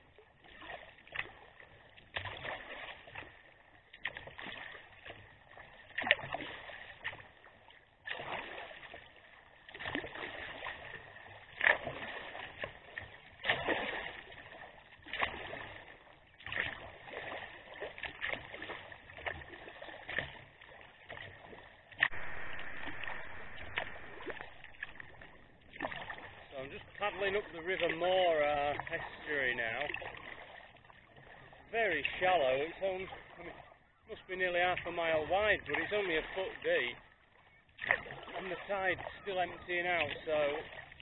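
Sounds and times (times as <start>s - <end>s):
paddle splashing in water: 0.0s - 41.0s.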